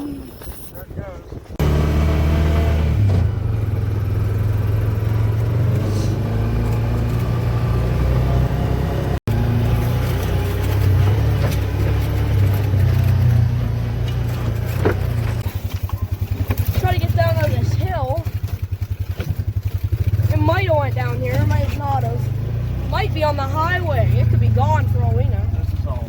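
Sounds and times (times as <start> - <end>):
vehicle engine droning: 1.5 - 26.0.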